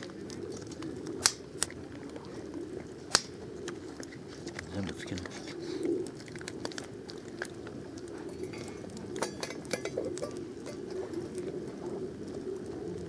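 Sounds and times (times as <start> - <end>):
campfire flames rushing: 0.0 - 13.0
fire crackling and popping: 0.0 - 13.0.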